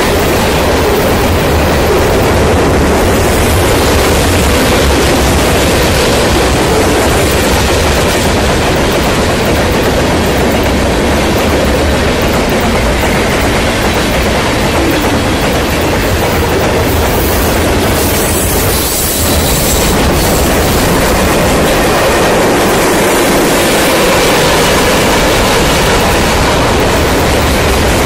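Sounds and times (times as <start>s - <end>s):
train wheels on rails: 0.0s - 28.0s.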